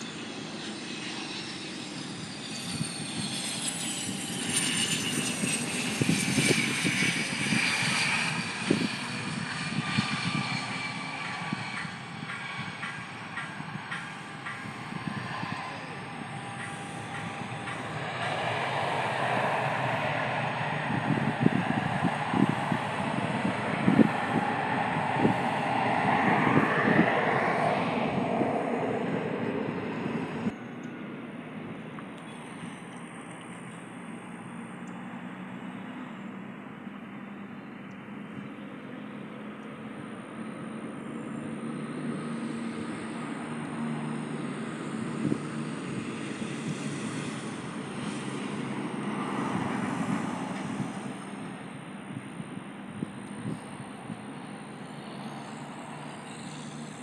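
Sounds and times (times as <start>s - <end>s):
jet aircraft roar: 0.0s - 57.0s
jet engine whine: 0.0s - 57.0s.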